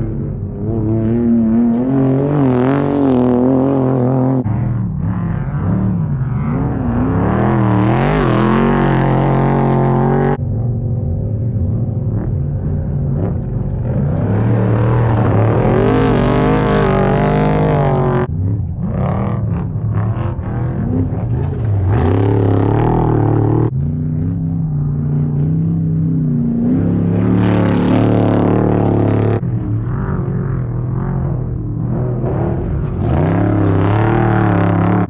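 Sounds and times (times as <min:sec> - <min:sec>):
race vehicle engines revving: 0:00.0 - 0:35.0.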